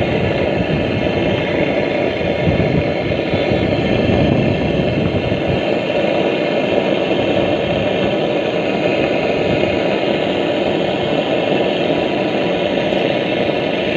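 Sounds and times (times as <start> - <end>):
engine running steadily: 0.0 - 13.9.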